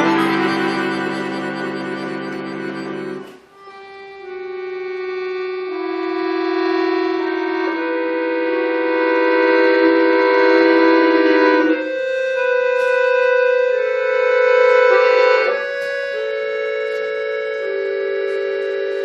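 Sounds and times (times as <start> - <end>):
button accordion playing chords: 0.0 - 19.0.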